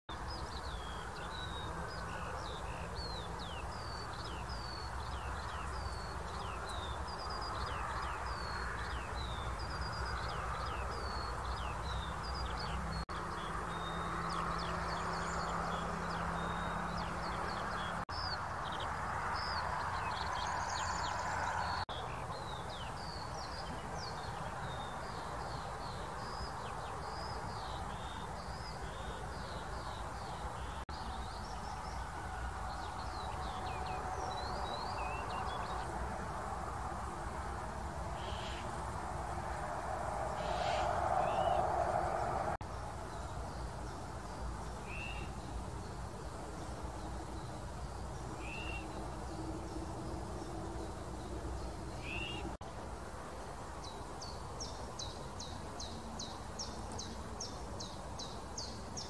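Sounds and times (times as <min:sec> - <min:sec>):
songbirds singing: 0:00.1 - 0:59.0
steady background hiss: 0:00.1 - 0:59.0.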